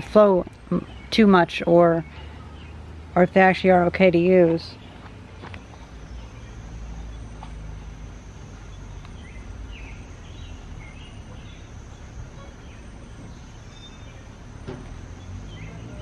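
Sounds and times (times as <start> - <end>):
birds chirping: 0.0 - 16.0
high insect drone: 0.0 - 16.0.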